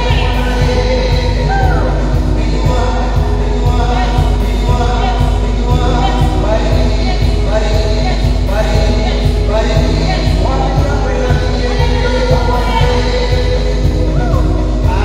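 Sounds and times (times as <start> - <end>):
band with steady bass beat: 0.0 - 15.0
voices singing worship song: 0.0 - 15.0.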